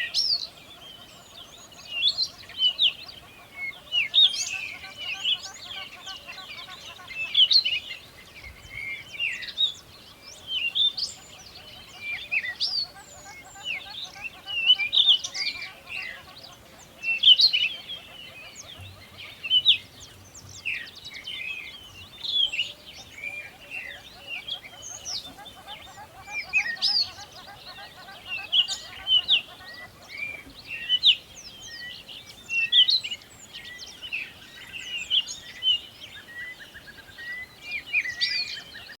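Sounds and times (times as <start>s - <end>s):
songbirds chirping and whistling: 0.0s - 39.0s.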